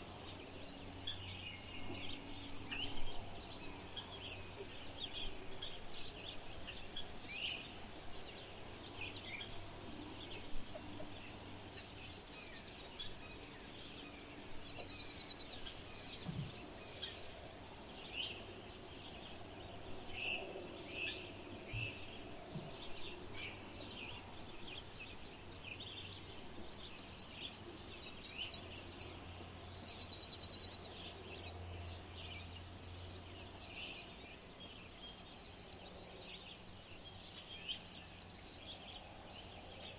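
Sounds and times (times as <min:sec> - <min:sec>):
faint low hum: 0:00.0 - 0:39.9
small birds chirping: 0:00.0 - 0:39.9.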